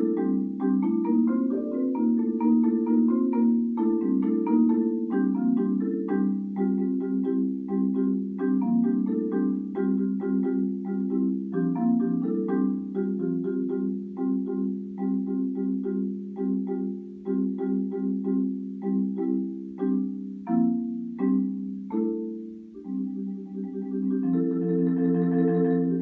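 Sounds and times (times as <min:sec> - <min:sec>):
solo marimba: 0:00.0 - 0:26.0.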